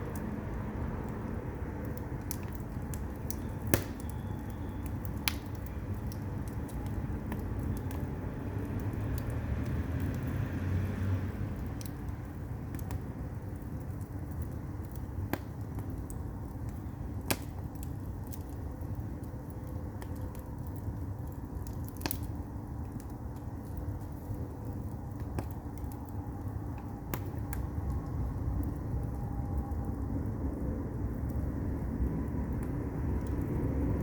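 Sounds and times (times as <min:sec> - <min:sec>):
firewood burning with pops and crackles: 0:00.0 - 0:34.0.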